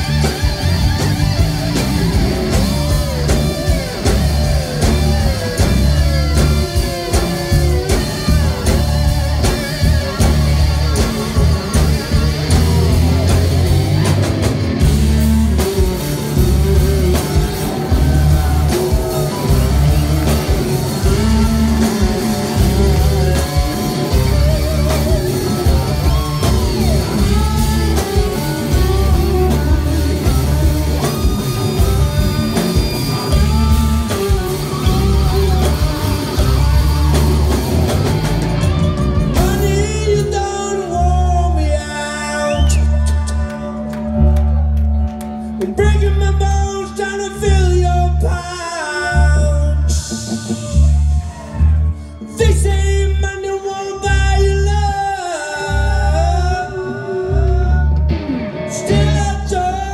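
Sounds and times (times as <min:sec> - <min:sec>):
lead electric guitar bending notes: 0:00.0 - 0:52.4, 0:54.0 - 0:59.9
live rock band playing: 0:00.0 - 0:59.9.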